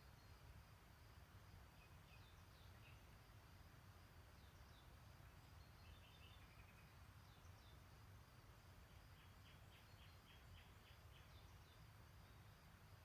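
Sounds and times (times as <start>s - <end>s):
distant songbirds chirping: 0.0s - 13.0s.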